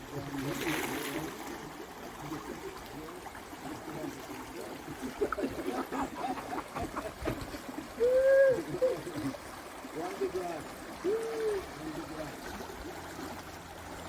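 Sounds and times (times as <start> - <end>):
faint voices: 0.0 - 13.1
stream water running: 0.0 - 14.0.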